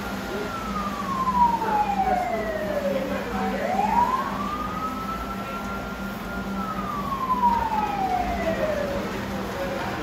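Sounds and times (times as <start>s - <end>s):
fire siren wail: 0.0s - 10.0s.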